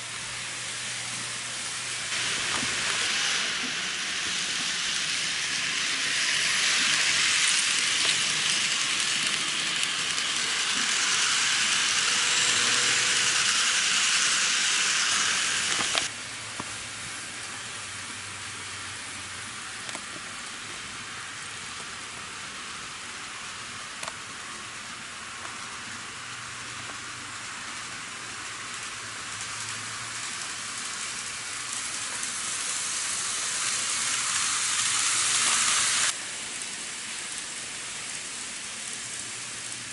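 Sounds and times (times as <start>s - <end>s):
model train wheels and motors hissing: 0.0s - 39.9s.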